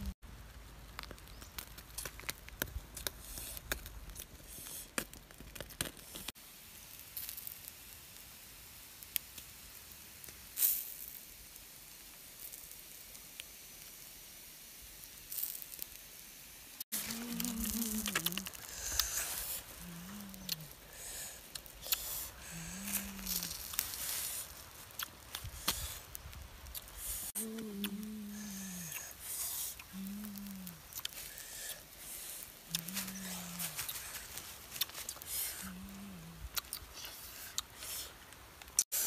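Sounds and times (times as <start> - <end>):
embers crackling: 0.0 - 39.0
fat sizzling and hissing: 0.0 - 39.0.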